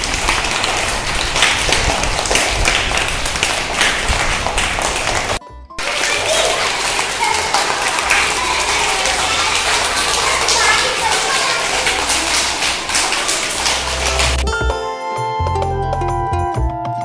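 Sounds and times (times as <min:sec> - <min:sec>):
children clapping hands: 0:00.0 - 0:14.4.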